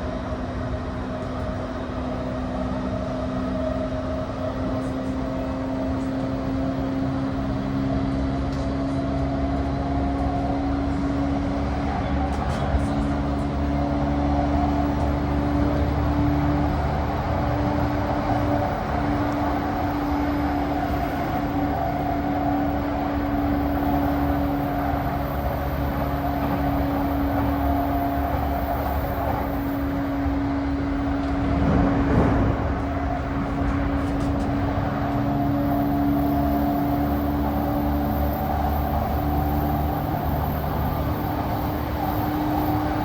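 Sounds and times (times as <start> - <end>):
train motor and gear hum: 0.0 - 43.0
wheels rolling rumble: 0.0 - 43.0.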